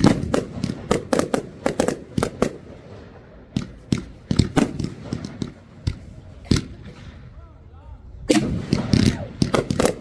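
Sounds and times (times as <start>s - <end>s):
fireworks bangs: 0.0s - 7.4s, 8.3s - 10.0s.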